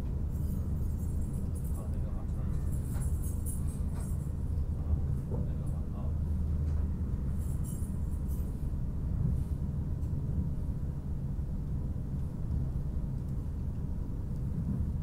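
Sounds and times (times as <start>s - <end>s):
train rumble inside cabin: 0.0s - 15.0s.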